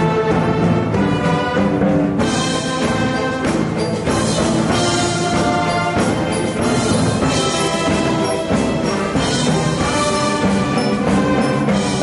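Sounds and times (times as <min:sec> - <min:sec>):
wind band playing: 0:00.0 - 0:12.0.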